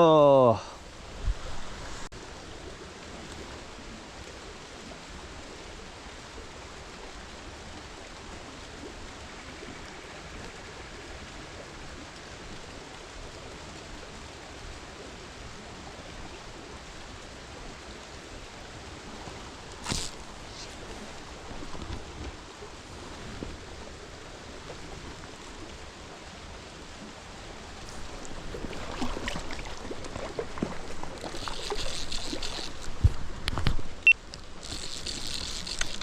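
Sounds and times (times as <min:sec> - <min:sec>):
stream flowing: 0:00.0 - 0:36.0.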